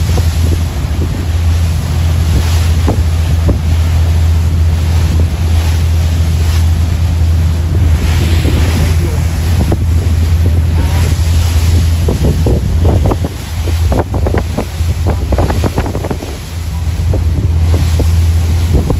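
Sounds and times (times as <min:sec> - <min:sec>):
boat engine droning: 0:00.0 - 0:18.9
waves and spray rushing: 0:00.0 - 0:18.9
wind buffeting microphone: 0:00.0 - 0:18.9.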